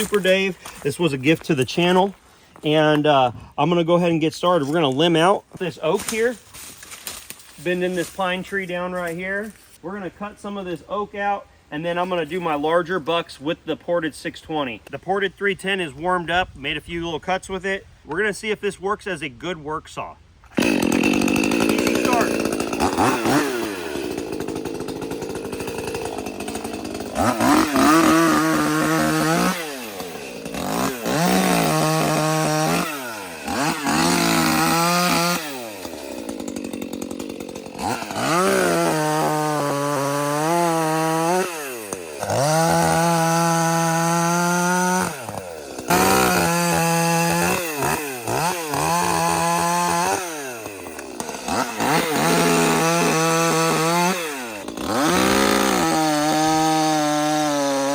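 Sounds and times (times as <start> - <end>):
chainsaw revving and idling: 0.0 - 13.4, 20.4 - 57.9.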